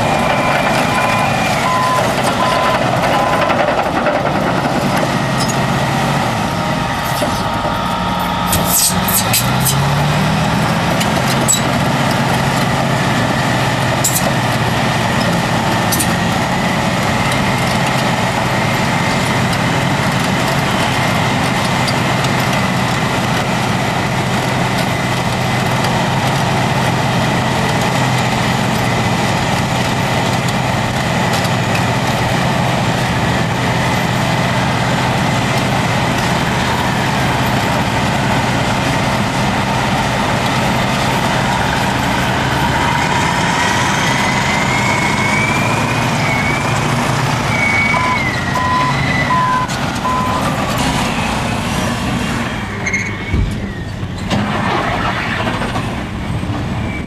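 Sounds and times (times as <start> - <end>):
heavy diesel engines under load: 0.0 - 57.0.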